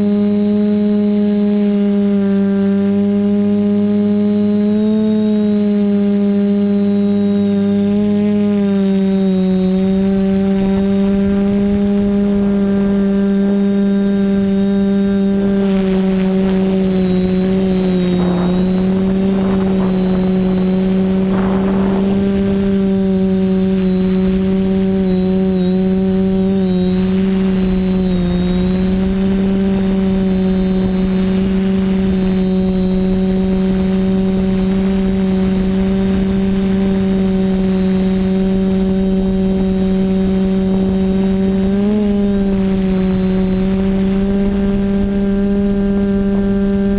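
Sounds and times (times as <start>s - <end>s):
drone motors buzzing: 0.0s - 46.9s.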